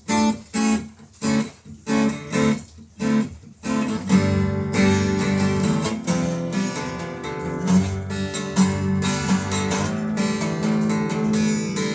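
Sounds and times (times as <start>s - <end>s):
acoustic guitar strumming: 0.0s - 11.9s.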